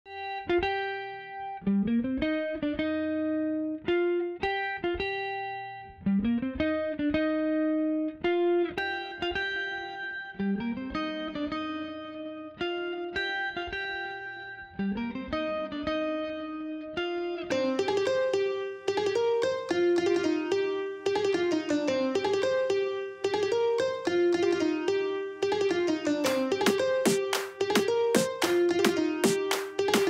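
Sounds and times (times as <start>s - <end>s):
plucked string melody: 0.1s - 30.0s.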